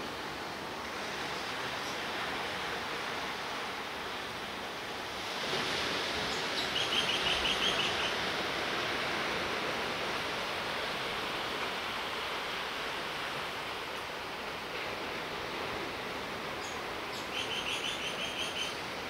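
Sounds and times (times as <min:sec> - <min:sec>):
rushing outdoor ambience: 0:00.0 - 0:19.0.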